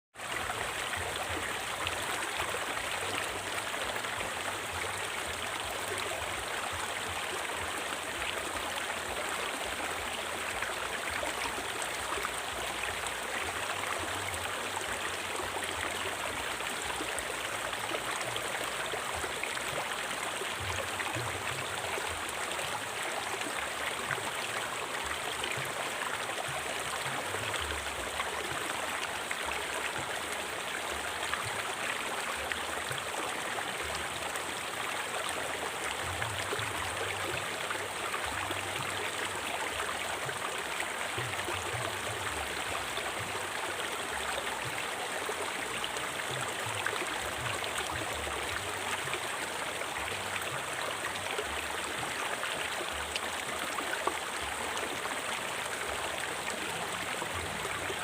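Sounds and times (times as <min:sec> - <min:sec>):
river water flowing over rocks: 0:00.2 - 0:58.0.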